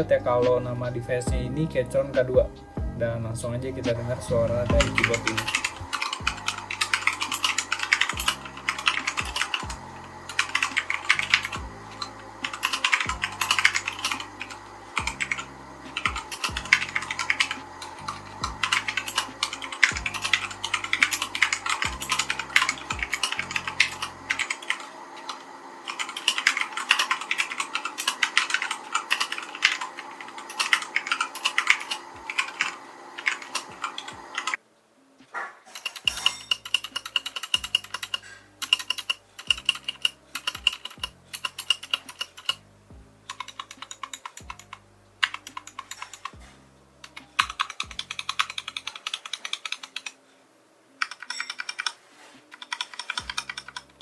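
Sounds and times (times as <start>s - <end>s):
mechanical keyboard typing: 4.8s - 34.6s, 35.8s - 42.6s, 43.3s - 46.4s, 47.0s - 50.2s, 51.0s - 54.0s.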